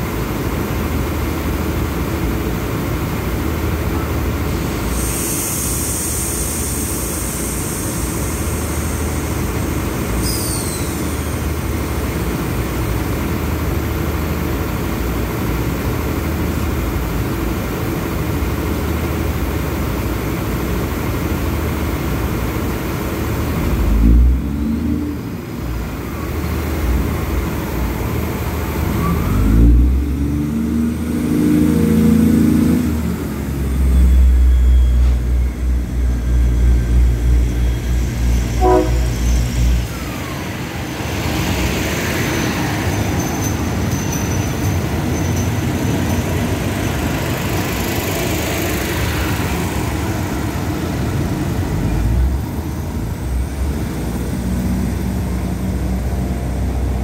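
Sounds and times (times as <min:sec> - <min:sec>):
diesel engines droning: 0:00.0 - 0:57.0
train wheels on rails: 0:00.0 - 0:57.0.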